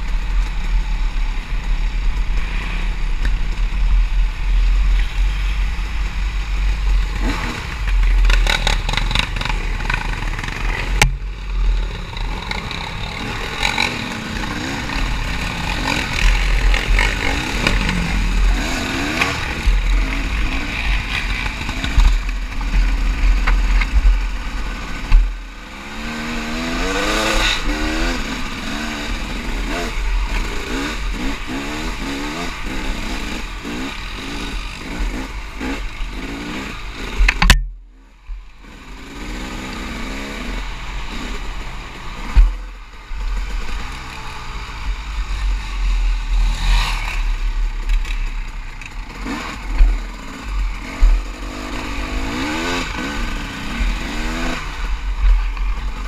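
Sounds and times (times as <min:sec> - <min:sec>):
dirt bike engine revving: 0:00.6 - 0:56.0.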